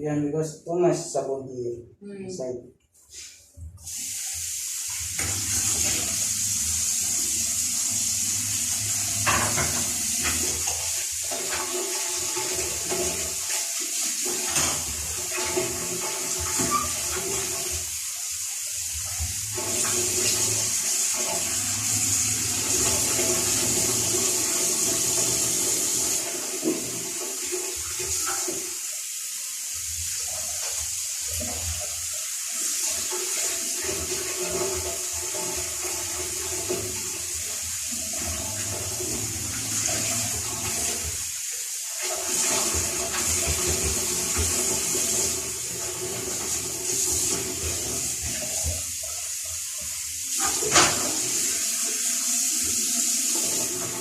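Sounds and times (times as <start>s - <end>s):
water running: 2.4s - 54.0s.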